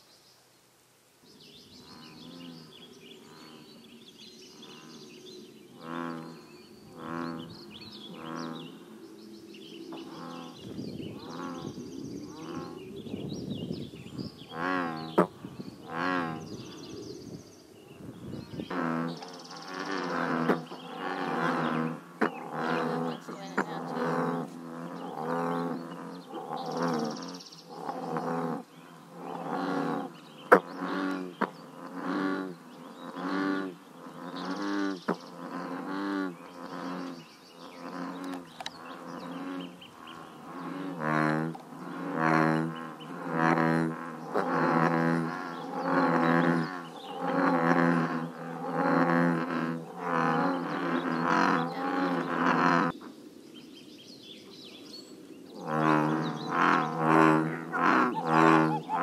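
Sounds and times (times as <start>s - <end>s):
bullfrogs croaking: 1.3s - 53.7s, 54.4s - 59.0s.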